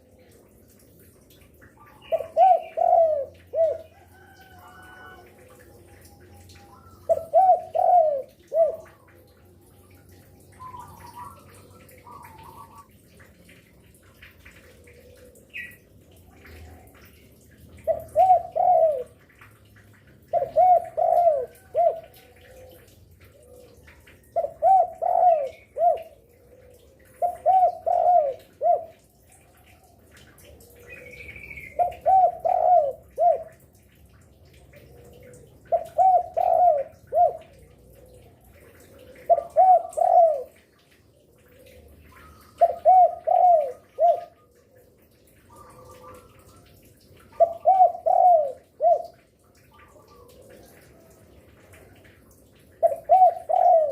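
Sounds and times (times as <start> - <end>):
dove cooing: 1.8 - 13.0, 14.1 - 19.3, 20.3 - 33.6, 34.5 - 53.9.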